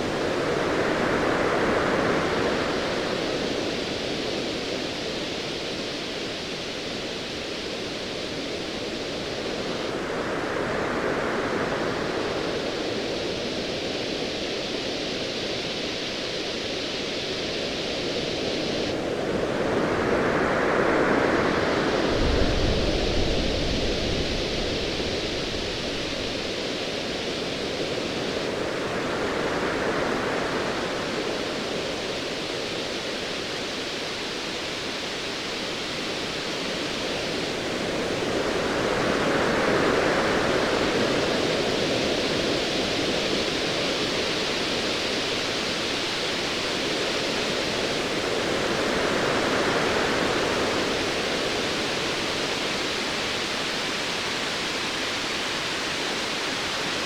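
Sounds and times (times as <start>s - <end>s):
surf hiss: 0.0s - 57.0s.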